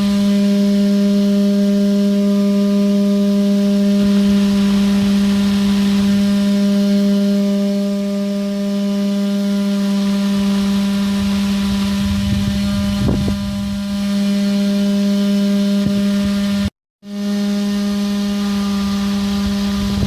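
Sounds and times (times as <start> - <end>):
electric motor fan whine: 0.0 - 20.0.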